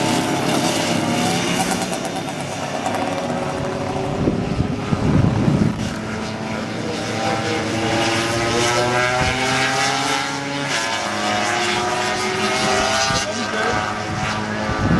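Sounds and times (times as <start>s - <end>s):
racing motorcycle engines running: 0.0s - 14.9s.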